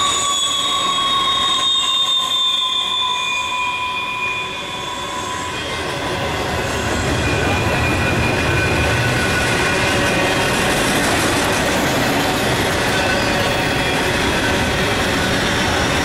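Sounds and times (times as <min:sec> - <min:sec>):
high-pitched wheel squeal: 0:00.0 - 0:16.0
steel wheels rumbling on rail: 0:00.0 - 0:16.0.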